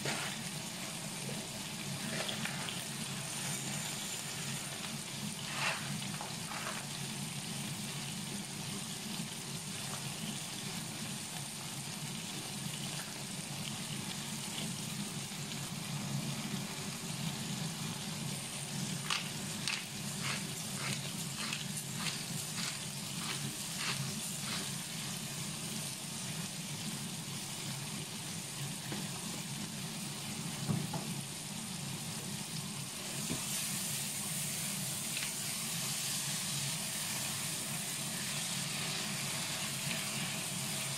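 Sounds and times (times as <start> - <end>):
onions and tomatoes sizzling: 0.0 - 40.9.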